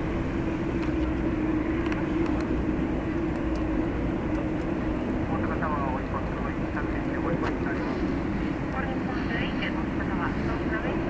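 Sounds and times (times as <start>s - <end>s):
jet engines droning at taxi: 0.0s - 11.0s.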